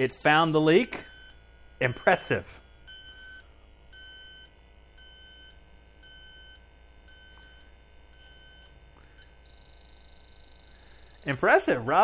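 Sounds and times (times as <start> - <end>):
leak detector beeping: 0.0 - 12.0.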